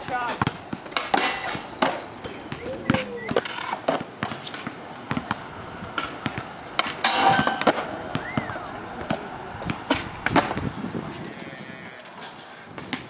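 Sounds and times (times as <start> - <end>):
skateboard wheels rolling: 0.0 - 13.0
skateboard pops and slaps: 0.8 - 11.4.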